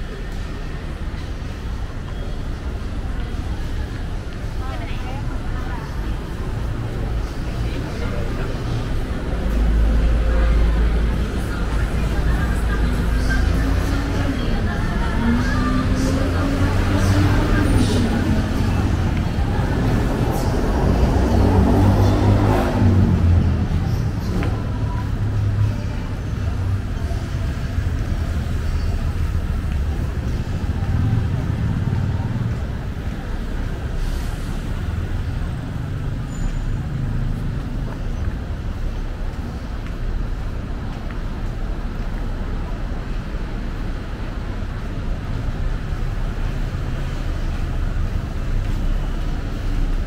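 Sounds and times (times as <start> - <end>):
traffic rumble: 0.0 - 50.0.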